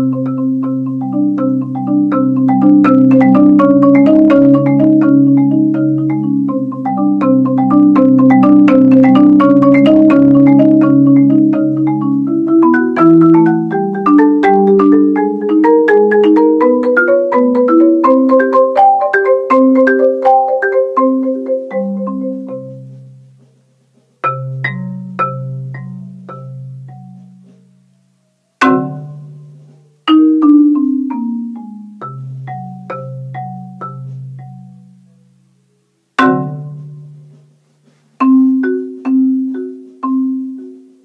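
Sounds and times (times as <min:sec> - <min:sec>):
solo marimba: 0:00.0 - 0:41.0.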